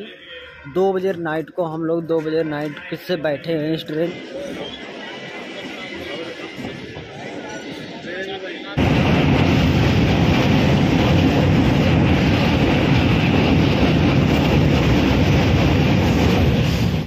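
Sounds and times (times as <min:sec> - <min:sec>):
train wheels rumbling on rails: 0:02.1 - 0:17.0.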